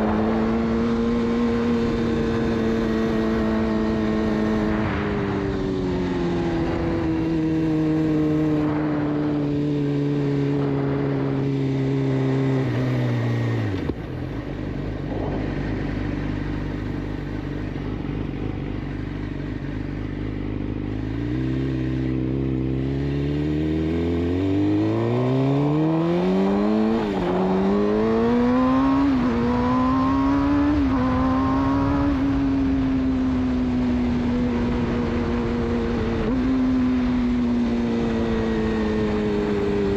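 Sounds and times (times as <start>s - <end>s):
motorcycle engine accelerating through gears: 0.0s - 39.9s.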